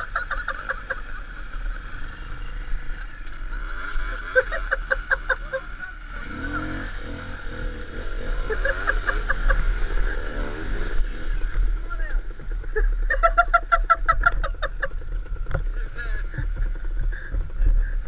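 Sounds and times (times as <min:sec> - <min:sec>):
vehicle engine and road hum: 0:00.0 - 0:18.0.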